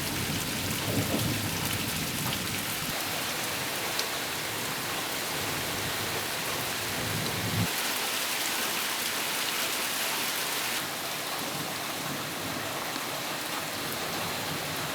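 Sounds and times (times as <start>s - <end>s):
rain falling: 0.0s - 14.9s.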